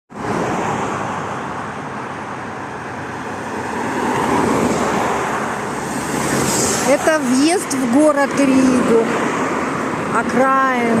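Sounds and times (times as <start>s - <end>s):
road traffic noise: 0.1s - 11.0s.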